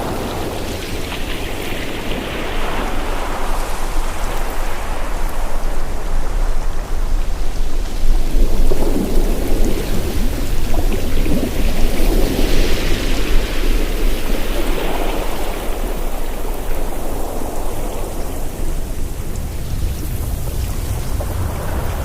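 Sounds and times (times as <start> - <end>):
ocean waves washing on shore: 0.0 - 22.0.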